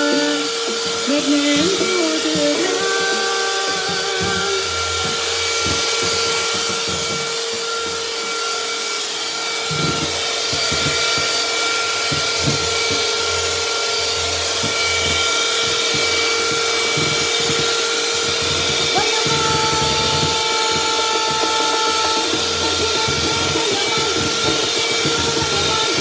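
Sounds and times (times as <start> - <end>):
electric hand mixer whining: 0.0 - 26.0.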